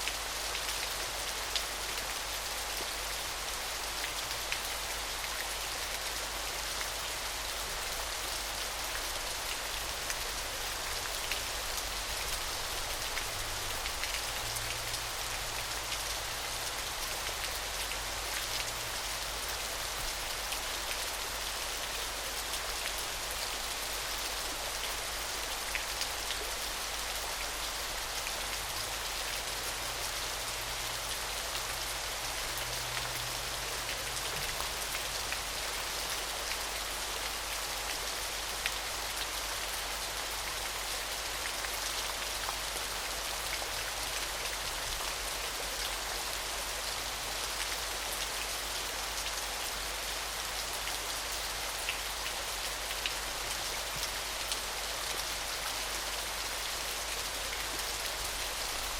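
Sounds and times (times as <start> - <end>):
small waterfall splashing: 0.0 - 58.9.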